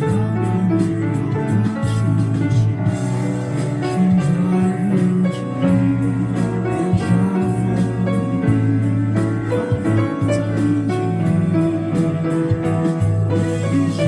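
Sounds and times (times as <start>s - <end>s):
bass line: 0.0s - 14.0s
jazz piano: 0.0s - 14.0s
steady beat: 0.0s - 14.0s.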